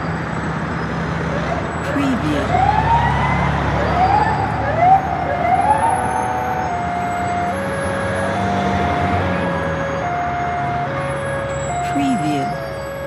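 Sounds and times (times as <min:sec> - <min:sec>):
emergency vehicle sirens: 0:00.0 - 0:13.0
low city traffic rumble: 0:00.0 - 0:13.0.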